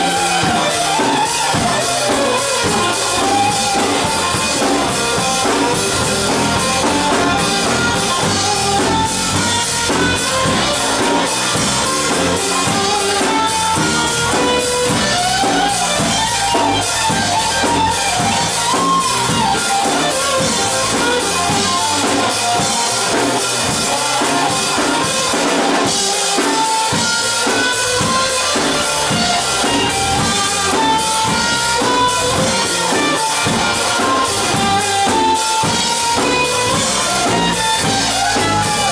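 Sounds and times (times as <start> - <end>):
band playing rock song: 0.0 - 38.9
drum kit beat: 0.0 - 38.9.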